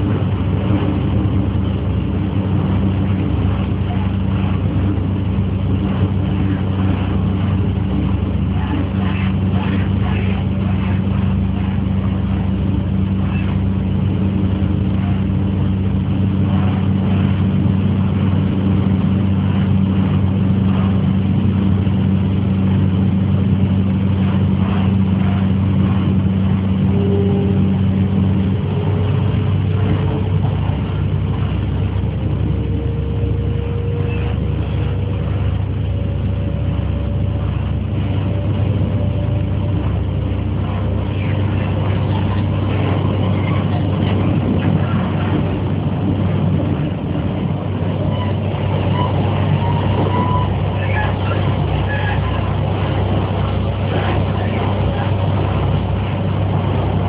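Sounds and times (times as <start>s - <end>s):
faint rising whine: 0.0s - 57.0s
low traction hum: 0.0s - 57.0s
wheels rumbling on rail: 0.0s - 57.0s.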